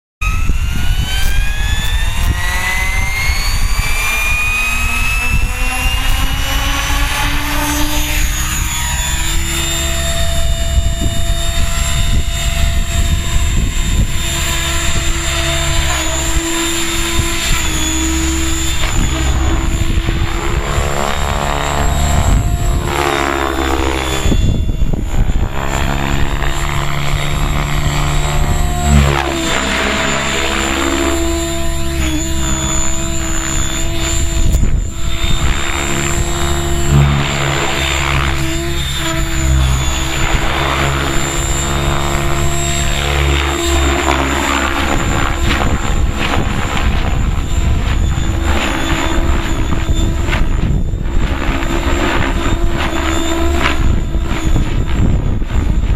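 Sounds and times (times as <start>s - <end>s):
rc helicopter motor whine: 0.2s - 55.9s
wind rumble on microphone: 0.2s - 55.9s.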